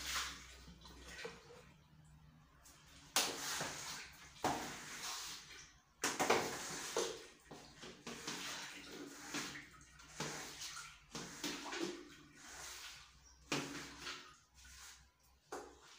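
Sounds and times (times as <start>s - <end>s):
wet cloth scrubbing tiles: 0.0s - 1.7s, 2.8s - 15.9s.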